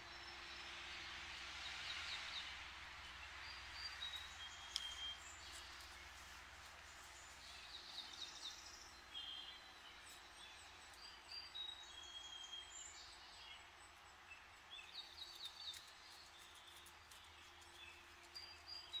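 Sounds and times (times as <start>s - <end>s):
distant road traffic hum: 0.0s - 19.0s
songbirds singing: 0.0s - 19.0s.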